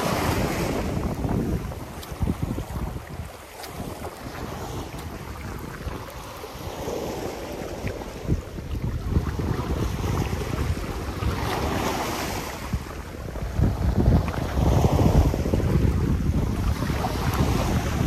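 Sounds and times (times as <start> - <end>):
waves washing against rocks: 0.0 - 18.0
wind buffeting microphone: 0.0 - 18.0.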